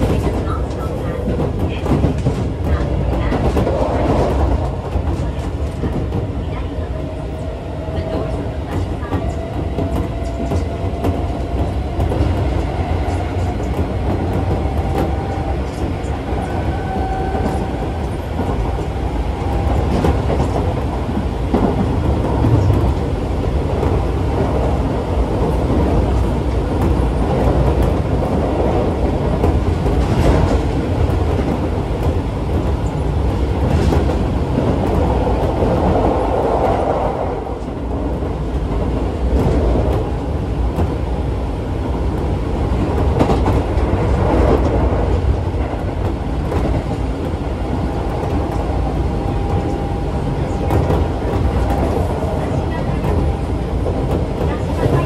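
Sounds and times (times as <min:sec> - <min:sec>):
clickety-clack of rail joints: 0:00.0 - 0:55.0
train wheels rumbling on rail: 0:00.0 - 0:55.0.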